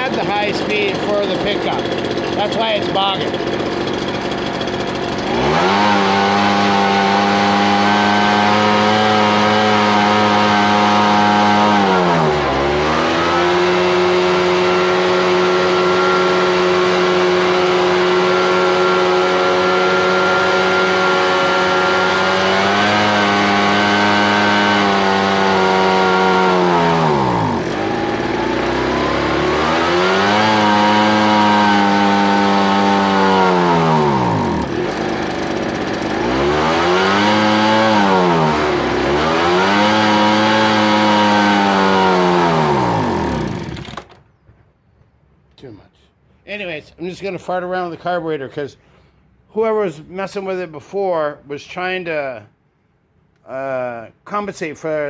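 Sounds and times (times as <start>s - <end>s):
leaf blower engine revving: 0.0s - 44.2s.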